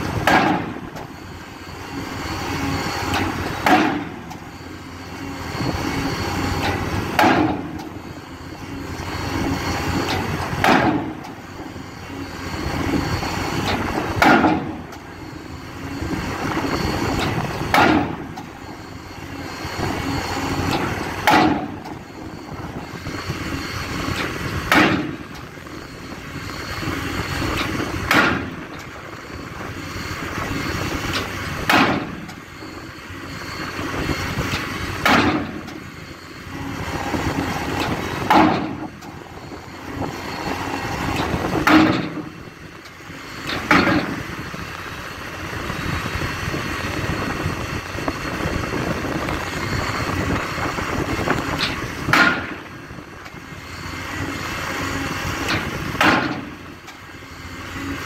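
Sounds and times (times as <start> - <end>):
machine noise: 0.0 - 58.0.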